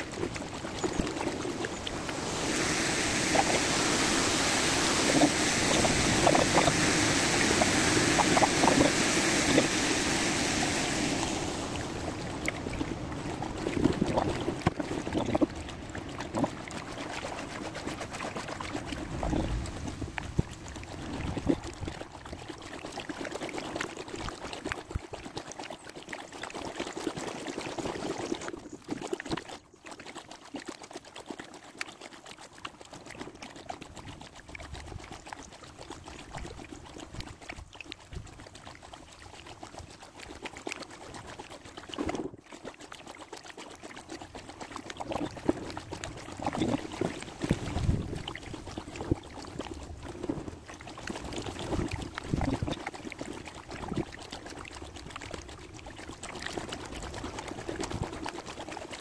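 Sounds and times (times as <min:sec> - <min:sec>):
kayak paddle splashing water: 0:00.0 - 0:23.9, 0:26.0 - 0:59.0.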